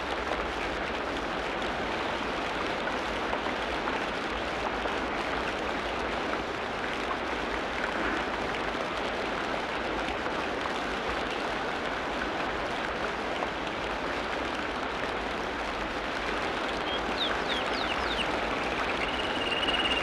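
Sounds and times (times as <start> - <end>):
heavy rain hiss: 0.0 - 20.0.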